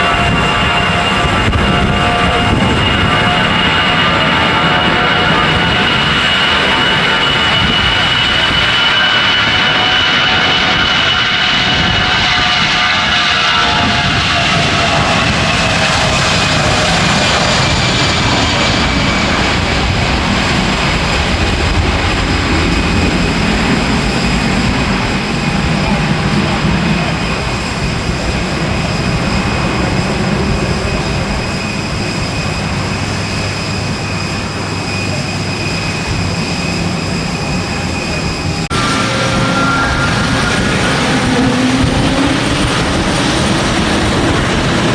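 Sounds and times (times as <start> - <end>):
jet engines passing: 0.0 - 44.9.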